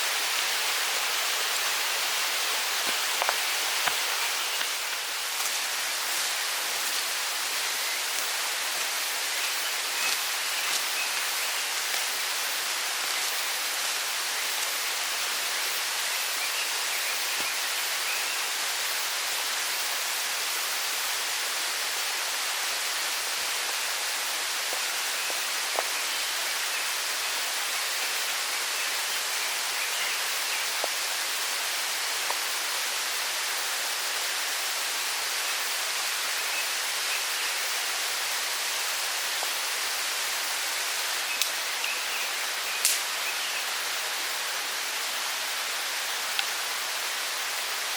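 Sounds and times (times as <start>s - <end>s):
mountain stream rushing: 0.0s - 47.9s.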